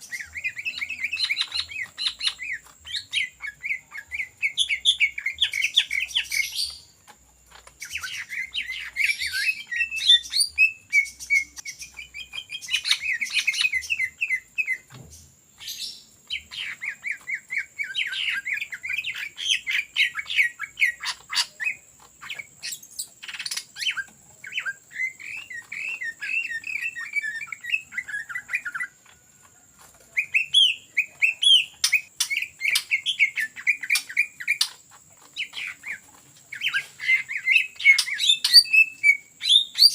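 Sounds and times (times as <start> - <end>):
bird rapid chattering song: 0.0 - 39.9.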